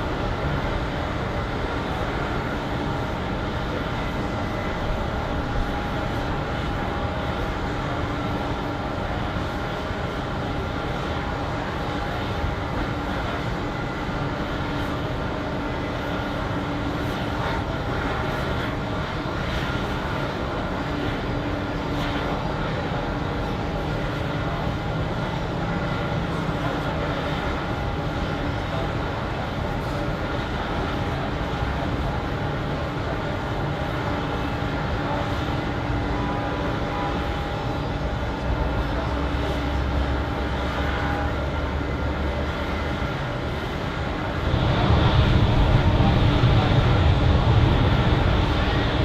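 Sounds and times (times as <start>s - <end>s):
jet engines running: 0.0s - 49.0s.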